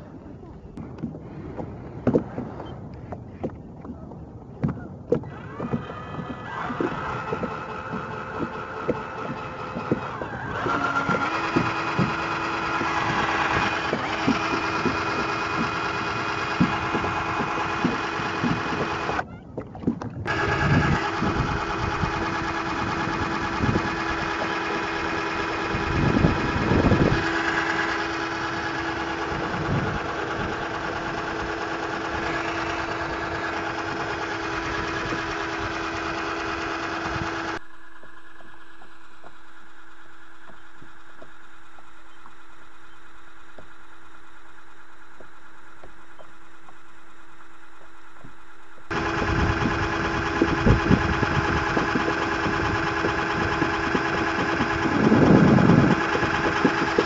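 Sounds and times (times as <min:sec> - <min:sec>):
cordless drill motor whine: 0:05.2 - 0:19.3, 0:20.3 - 0:57.0.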